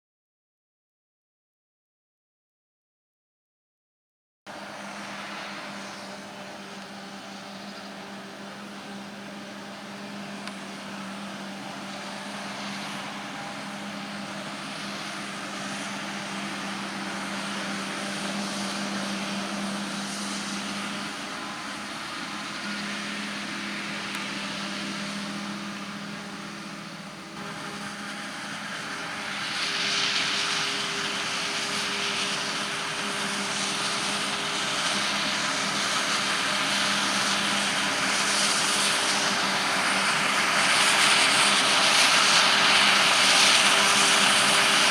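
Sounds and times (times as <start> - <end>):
harvest machinery engine drone: 4.5 - 44.9.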